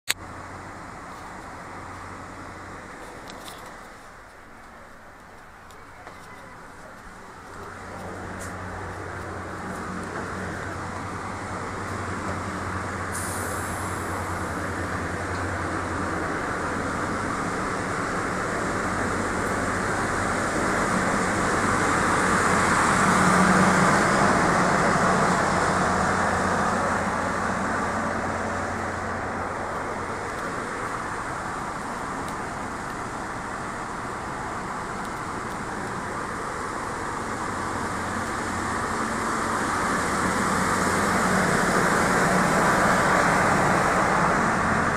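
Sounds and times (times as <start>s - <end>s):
diesel engine idling drone: 5.1s - 44.9s.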